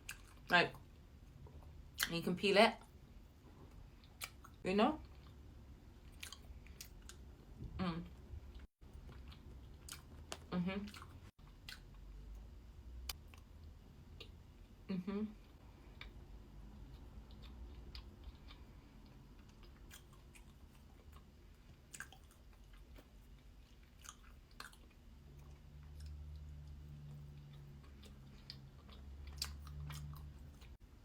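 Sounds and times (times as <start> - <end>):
chewing soft cake: 0.0 - 2.1, 2.8 - 30.9.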